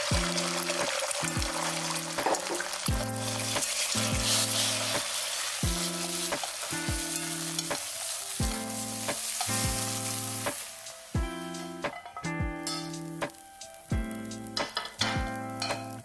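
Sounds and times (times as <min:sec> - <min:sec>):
egg sizzling in oil: 0:00.0 - 0:16.0
soft background music: 0:00.0 - 0:16.0.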